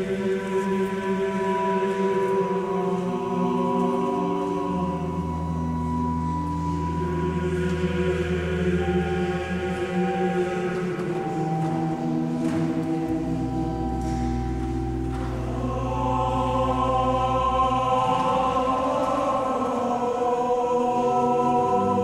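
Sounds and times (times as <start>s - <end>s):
pipe organ chords: 0.0s - 22.0s.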